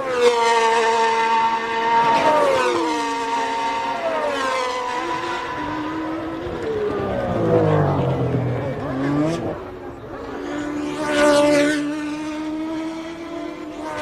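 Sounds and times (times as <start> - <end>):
race car engines screaming past: 0.5 - 11.7.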